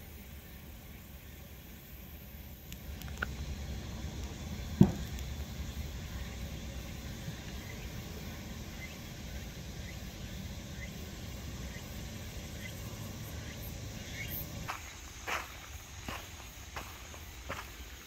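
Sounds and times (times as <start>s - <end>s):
faint insect chirps: 0.0s - 18.0s
steady low rumble: 0.0s - 18.0s.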